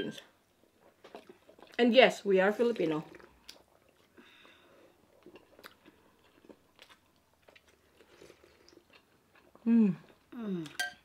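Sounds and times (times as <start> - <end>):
faint chewing and mouth clicks: 0.6 - 1.9, 2.6 - 11.0.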